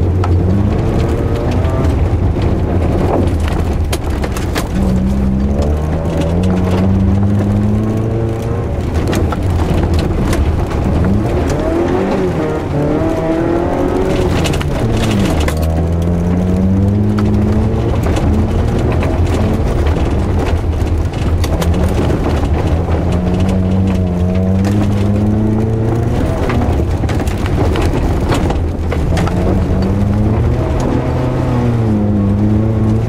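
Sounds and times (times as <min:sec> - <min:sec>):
car engine revving: 0:00.0 - 0:33.0
knocks and rattles: 0:00.0 - 0:33.0.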